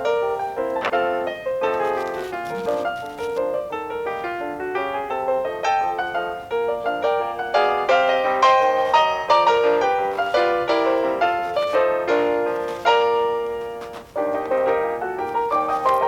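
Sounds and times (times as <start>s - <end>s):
solo piano notes: 0.0s - 16.0s.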